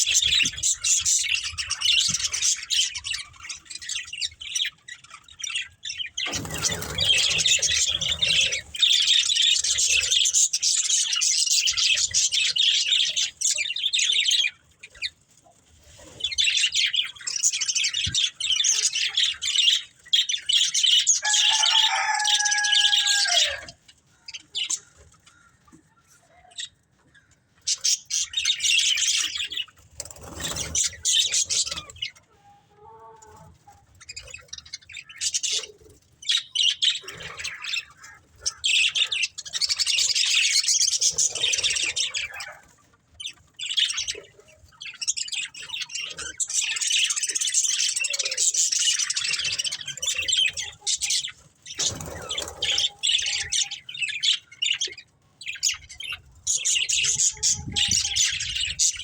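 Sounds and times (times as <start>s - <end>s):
budgerigars chattering and chirping: 0.0s - 15.2s, 15.8s - 32.2s, 33.4s - 59.0s.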